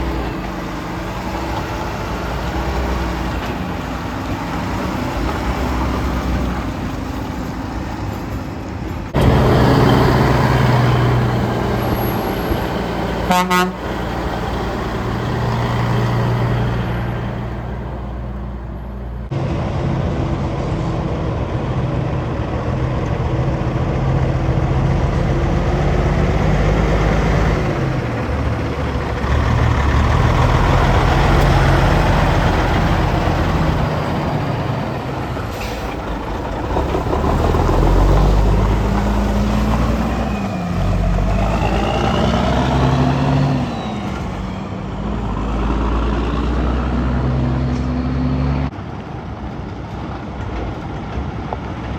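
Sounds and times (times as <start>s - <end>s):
truck changing gear: 0.0s - 19.4s, 22.9s - 48.6s
heavy trucks passing: 0.0s - 51.9s.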